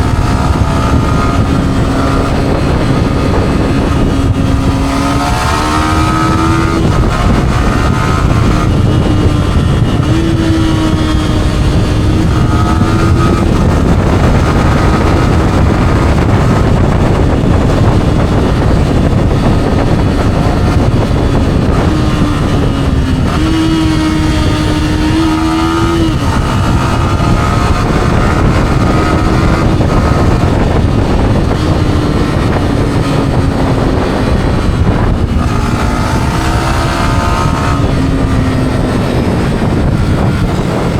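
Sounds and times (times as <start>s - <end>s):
motorcycle engine revving: 0.0s - 40.9s
road noise: 0.0s - 40.9s
wind noise on microphone: 0.0s - 40.9s.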